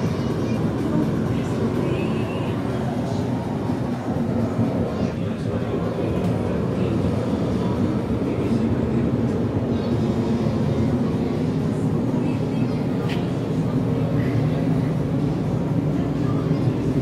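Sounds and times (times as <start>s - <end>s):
space heater fan rumble: 0.0s - 17.0s.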